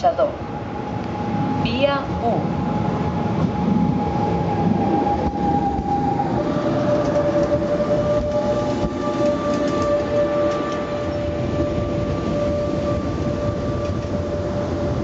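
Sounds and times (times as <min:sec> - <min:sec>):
electric train whine: 0:00.0 - 0:15.0
train wheels rumbling on rail: 0:00.0 - 0:15.0.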